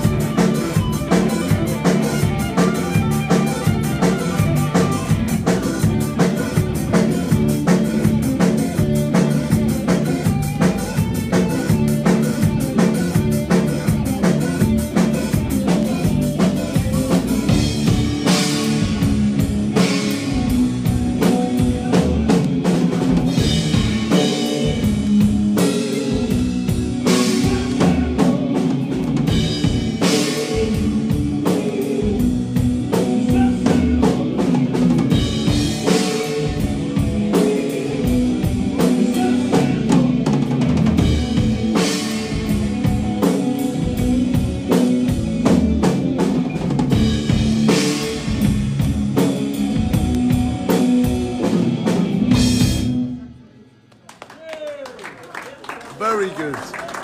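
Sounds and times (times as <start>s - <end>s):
drum kit beat: 0.0s - 53.2s
electric bass: 0.0s - 53.4s
electric guitar: 0.0s - 53.6s.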